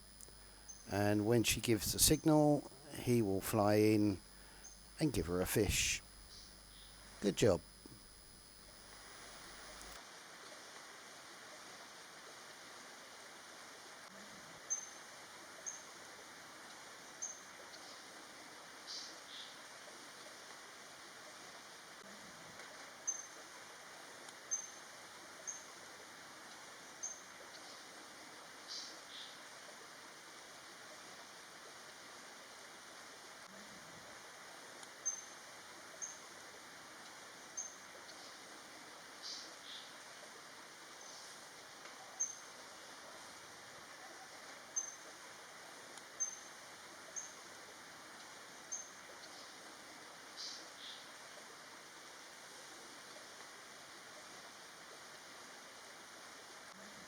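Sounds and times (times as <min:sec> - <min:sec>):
faint forest ambience hiss: 0:00.0 - 0:57.0.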